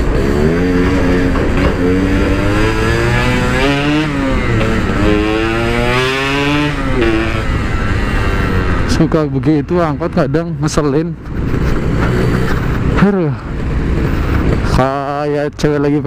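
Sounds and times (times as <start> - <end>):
two-stroke motorcycle engine revving: 0.0 - 15.2.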